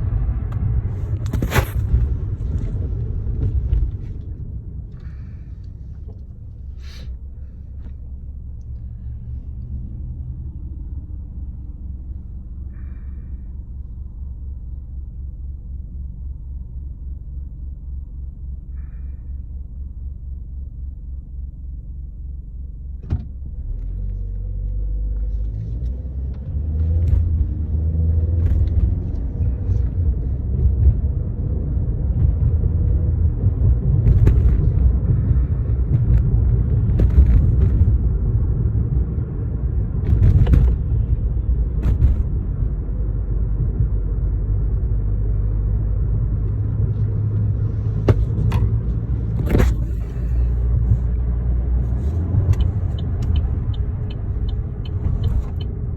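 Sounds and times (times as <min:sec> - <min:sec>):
engine and road rumble: 0:00.0 - 0:55.9.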